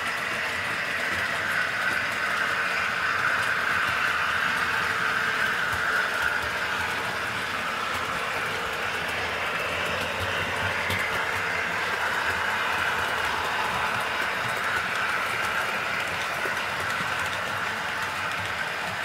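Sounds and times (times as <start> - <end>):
model train wheels on track: 0.0 - 19.0.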